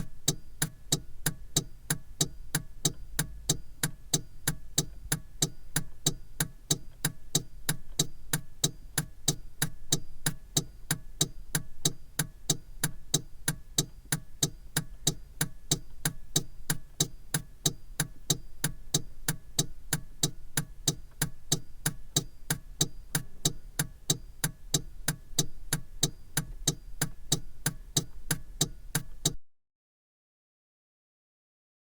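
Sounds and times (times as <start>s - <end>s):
turn signal relay ticking: 0.0s - 29.4s.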